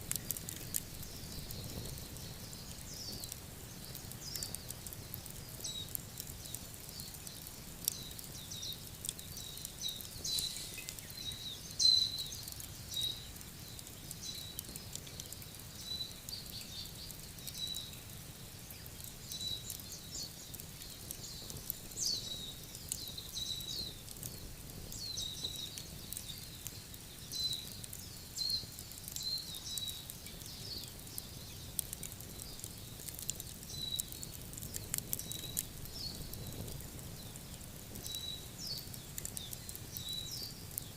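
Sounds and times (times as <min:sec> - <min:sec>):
faint crackles: 0:00.0 - 0:40.9
small birds chirping: 0:00.1 - 0:40.9.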